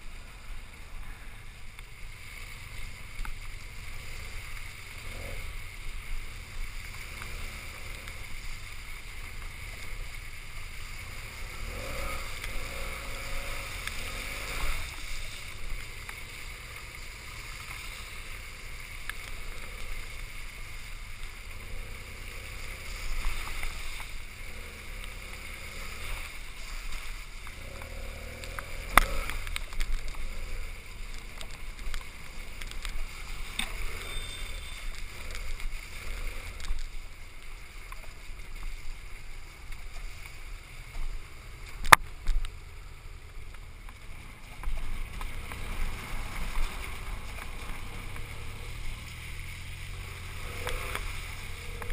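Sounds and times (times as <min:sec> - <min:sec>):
motorcycle engine rumble: 0:00.0 - 0:51.9
tyres on gravel: 0:00.0 - 0:51.9.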